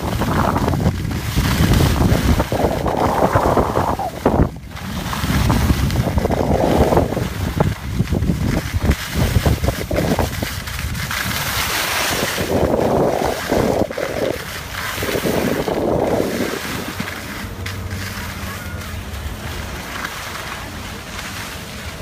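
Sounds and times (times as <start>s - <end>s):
skis sliding on snow: 0.0s - 22.0s
wind buffeting microphone: 0.0s - 22.0s.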